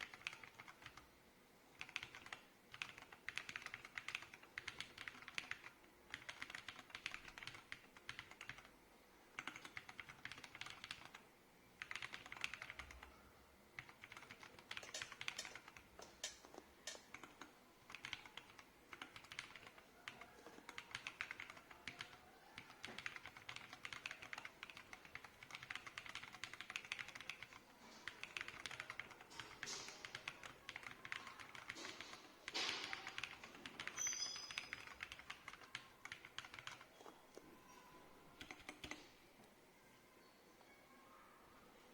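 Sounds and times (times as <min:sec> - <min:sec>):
mechanical keyboard typing: 0:00.0 - 0:01.1, 0:01.7 - 0:08.7, 0:09.3 - 0:11.2, 0:11.8 - 0:13.1, 0:13.8 - 0:37.1, 0:38.3 - 0:39.1.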